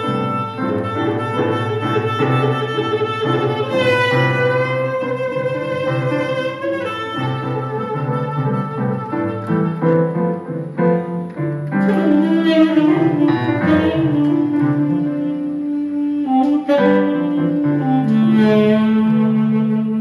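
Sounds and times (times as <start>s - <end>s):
saxophone: 0.0s - 20.0s.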